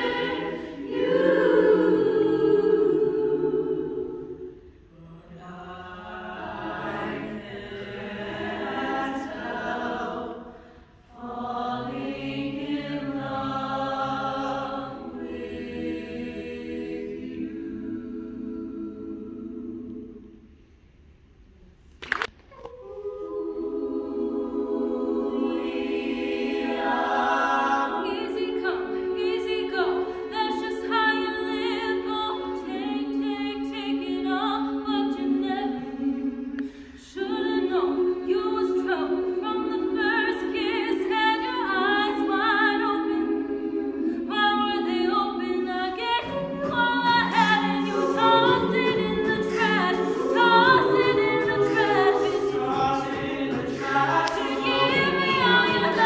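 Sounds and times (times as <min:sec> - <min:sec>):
a cappella choir singing: 0:00.0 - 0:20.8, 0:22.5 - 0:56.0.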